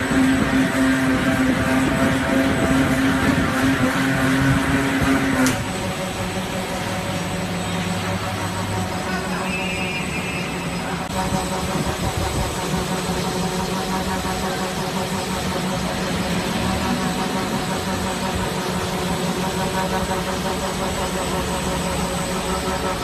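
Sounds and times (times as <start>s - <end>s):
machine mechanical hum: 0.0s - 23.0s.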